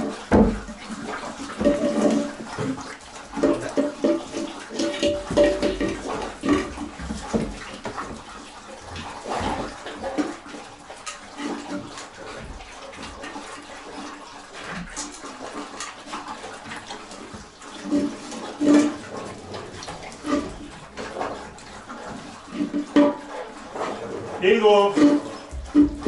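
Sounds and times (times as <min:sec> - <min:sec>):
dogs lapping and slurping: 0:00.0 - 0:26.0.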